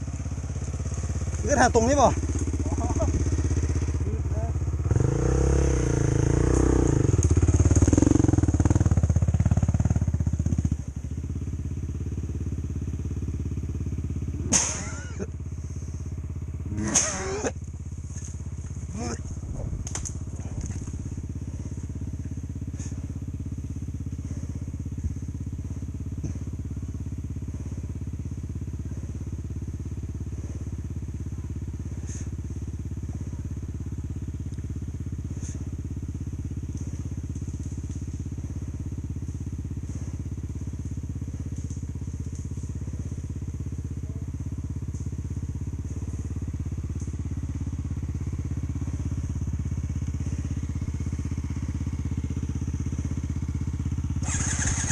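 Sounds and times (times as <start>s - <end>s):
dirt bike engine running: 0.0s - 54.9s.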